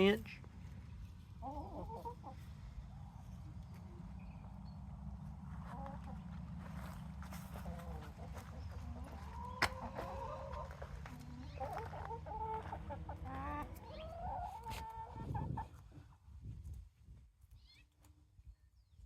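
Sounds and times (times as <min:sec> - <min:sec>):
hens clucking: 0:00.0 - 0:16.1.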